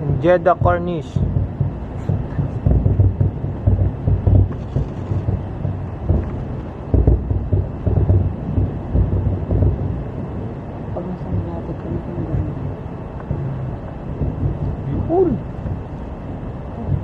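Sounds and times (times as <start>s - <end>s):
fireworks booming: 0.0s - 17.0s
wind buffeting microphone: 0.0s - 17.0s.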